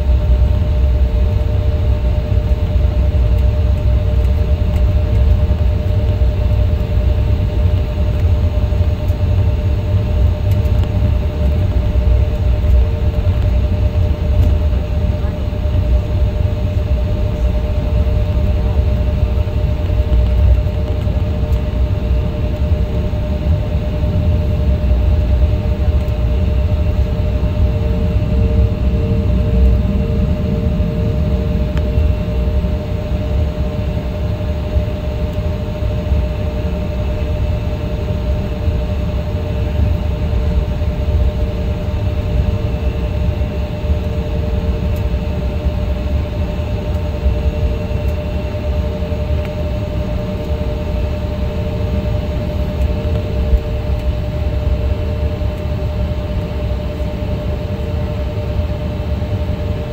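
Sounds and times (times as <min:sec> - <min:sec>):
jet cabin rumble and hum: 0:00.0 - 0:59.9.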